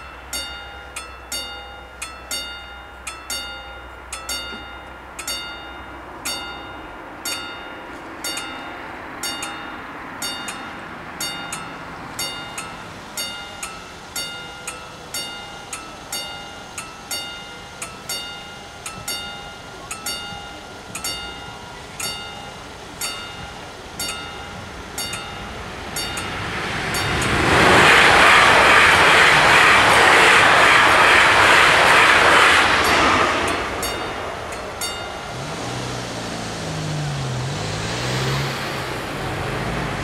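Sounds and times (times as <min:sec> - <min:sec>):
electric train passing: 0:00.0 - 0:40.0
level-crossing warning bells: 0:00.0 - 0:40.0.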